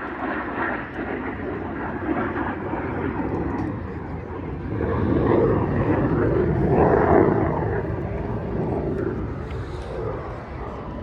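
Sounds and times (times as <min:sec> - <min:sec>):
fighter jets flying: 0:00.0 - 0:11.0.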